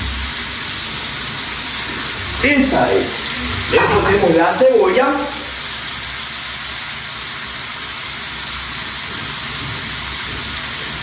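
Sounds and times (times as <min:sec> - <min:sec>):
stew pot hissing: 0:00.0 - 0:11.0.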